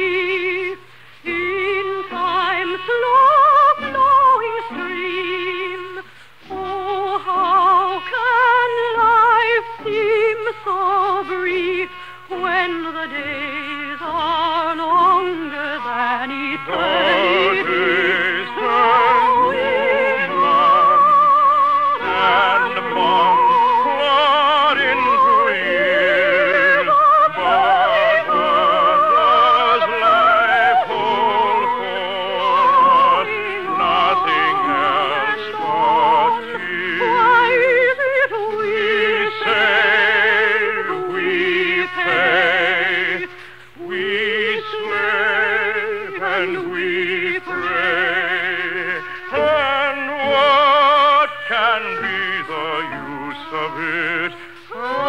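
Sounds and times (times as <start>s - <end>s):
operatic singing with vibrato: 0.0s - 55.0s
orchestral music: 1.3s - 55.0s.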